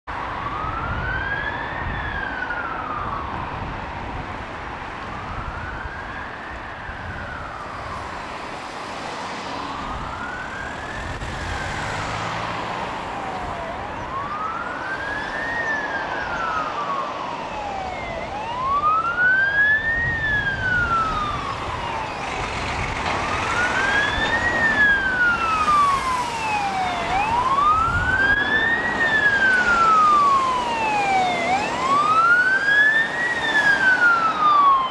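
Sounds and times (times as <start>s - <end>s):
fire engine siren wailing: 0.1s - 34.9s
road traffic rumble: 0.1s - 34.9s.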